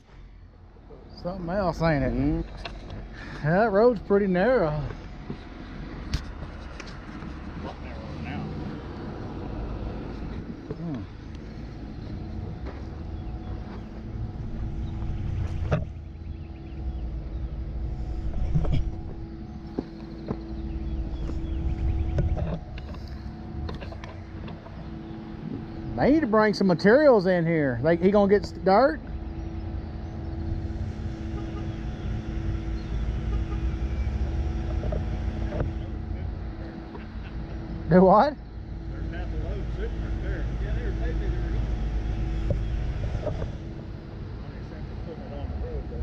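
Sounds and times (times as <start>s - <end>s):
diesel truck engines rumbling: 0.0s - 46.0s.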